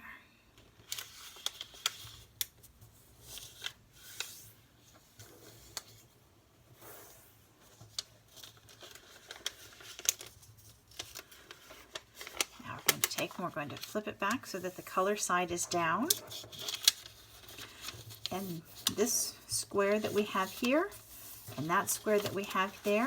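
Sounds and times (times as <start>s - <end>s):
paper rustling and crackling: 0.6s - 23.0s.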